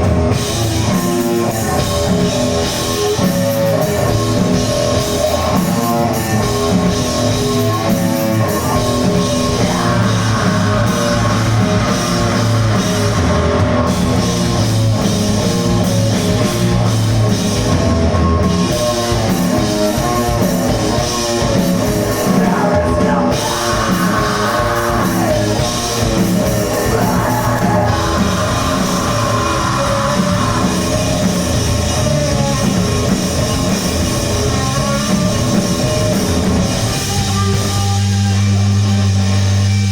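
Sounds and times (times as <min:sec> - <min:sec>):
drum kit: 0:00.0 - 0:39.9
electric guitar: 0:00.0 - 0:39.9
loud rock music: 0:00.0 - 0:39.9.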